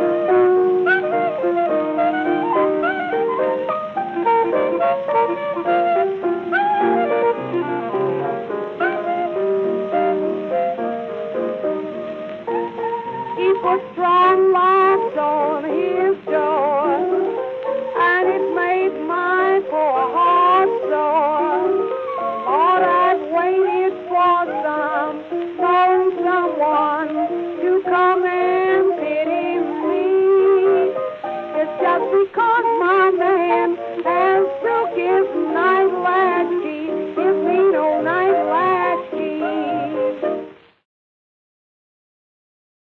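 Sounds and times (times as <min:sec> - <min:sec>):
old blues record instrumental: 0:00.0 - 0:40.8.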